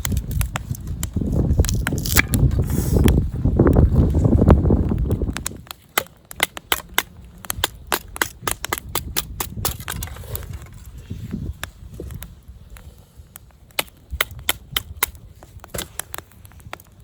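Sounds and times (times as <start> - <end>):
dry wood snapping and crackling: 0.0 - 17.0.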